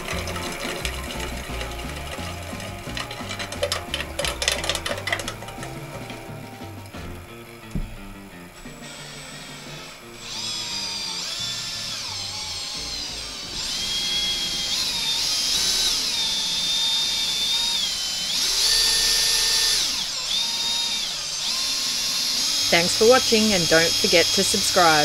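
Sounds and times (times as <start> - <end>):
cordless drill motor whining: 0.0 - 25.0.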